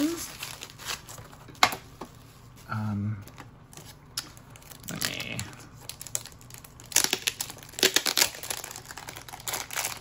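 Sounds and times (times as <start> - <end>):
plastic packaging crinkling: 0.0 - 1.6, 3.3 - 10.0.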